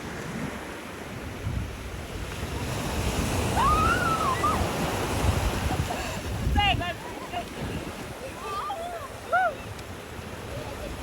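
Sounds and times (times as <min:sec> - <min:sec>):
ocean surf washing in: 0:00.0 - 0:11.0
wind buffeting microphone: 0:00.0 - 0:11.0.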